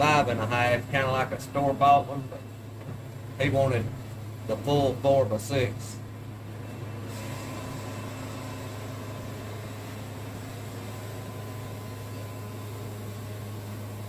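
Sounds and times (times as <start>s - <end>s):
sawmill engine humming: 0.0s - 14.0s.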